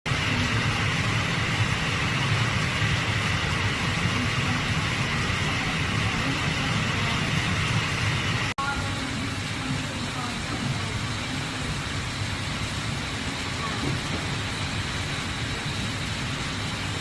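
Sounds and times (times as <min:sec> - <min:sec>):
rain hiss: 0:00.1 - 0:17.0
road traffic rumble: 0:00.1 - 0:17.0.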